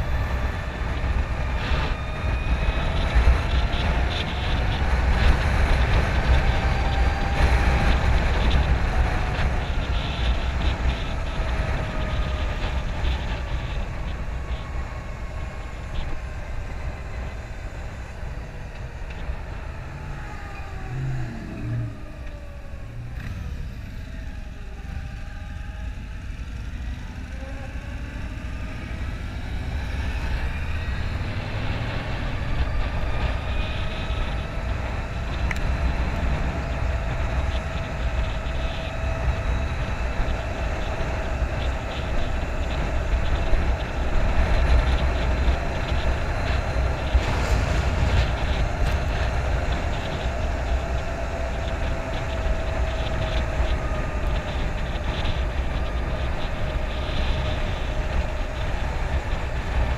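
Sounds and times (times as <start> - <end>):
electric motorcycle whine: 0.0 - 59.9
wind rumble on microphone: 0.0 - 59.9.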